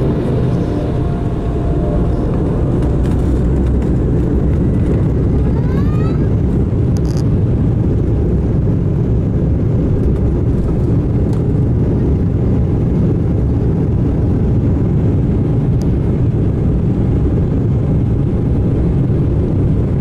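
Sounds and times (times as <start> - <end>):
jet airliner rumbling on runway: 0.0 - 20.0.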